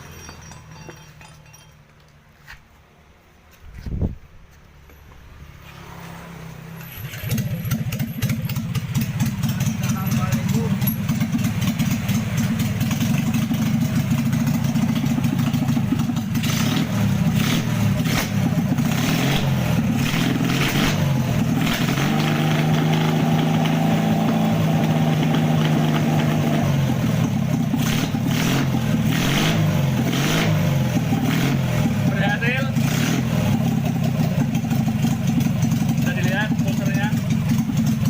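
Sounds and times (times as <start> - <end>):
motorcycle engine revving: 5.1 - 38.0.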